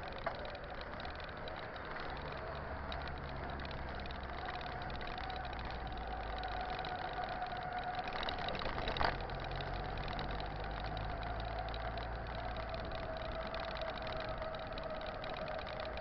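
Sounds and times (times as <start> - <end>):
mountain bike rolling: 0.0 - 16.0.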